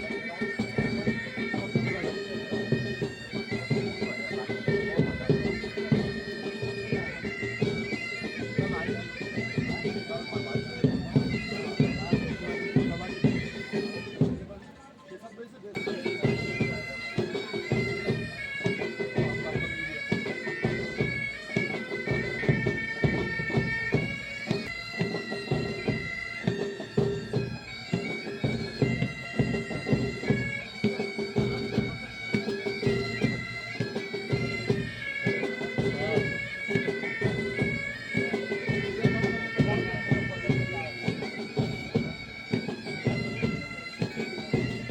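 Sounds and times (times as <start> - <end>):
drumbeats: 0.0 - 14.8, 15.7 - 44.9
bagpipes with drone: 0.0 - 44.9.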